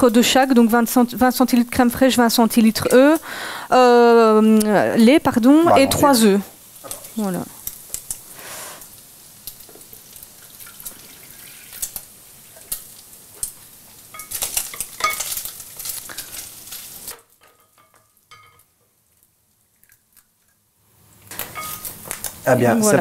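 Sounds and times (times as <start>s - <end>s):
bacon sizzling in frying pan: 0.0s - 23.0s.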